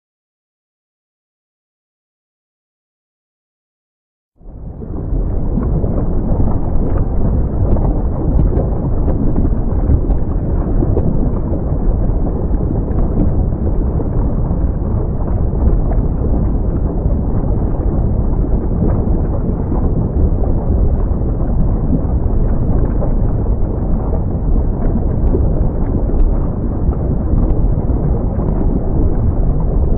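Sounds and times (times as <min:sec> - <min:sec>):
volcano rumbling roar: 0:04.4 - 0:29.9
faint crackles: 0:04.6 - 0:29.9.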